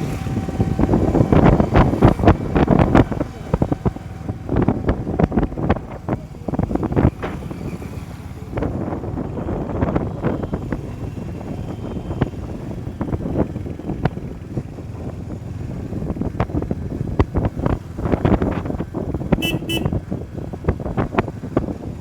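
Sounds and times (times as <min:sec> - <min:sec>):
motorcycle engine drone: 0:00.0 - 0:22.0
wind buffeting microphone: 0:00.0 - 0:22.0.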